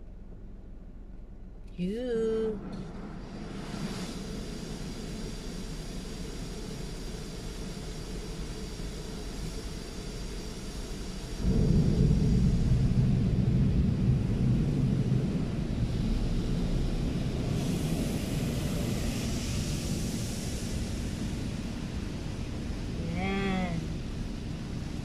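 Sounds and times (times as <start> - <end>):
car wash machinery rumbling: 0.0 - 25.0
hissing water spray: 3.2 - 25.0.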